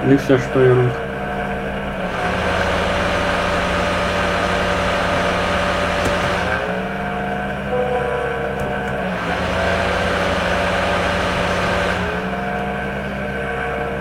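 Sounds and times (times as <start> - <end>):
laptop fan whooshing and whining: 1.0 - 14.0.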